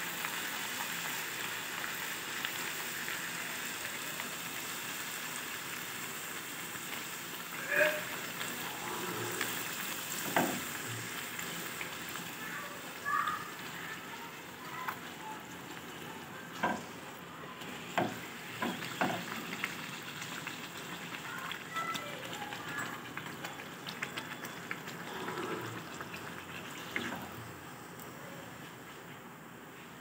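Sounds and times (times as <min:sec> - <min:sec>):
oil sizzling and crackling: 0:00.0 - 0:29.7.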